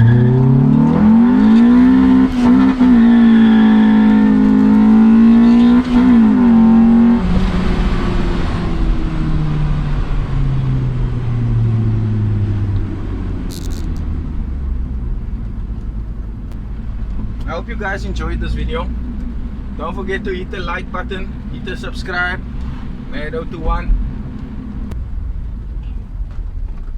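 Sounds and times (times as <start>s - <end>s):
car engine at high revs: 0.0s - 26.9s.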